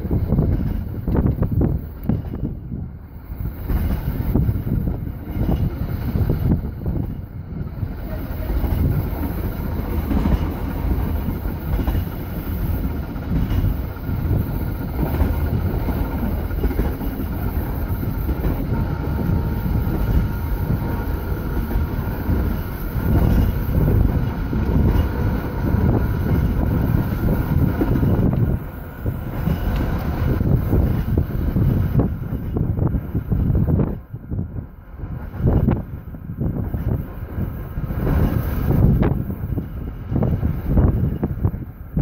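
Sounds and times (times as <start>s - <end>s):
tram wheels rumbling on rail: 0.0s - 42.0s.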